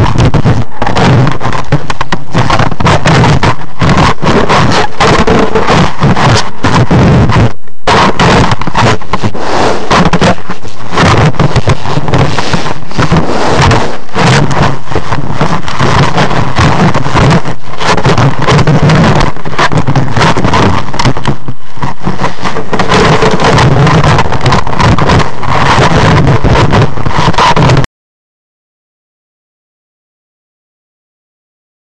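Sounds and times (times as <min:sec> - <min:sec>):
animal scraping camera microphone: 0:00.0 - 0:27.9.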